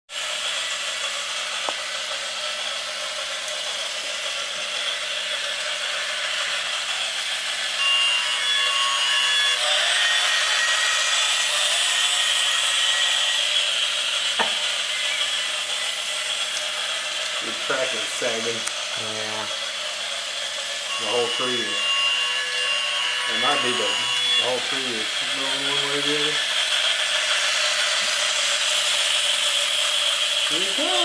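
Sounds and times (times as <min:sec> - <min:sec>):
toy train running on track: 0:00.1 - 0:31.0.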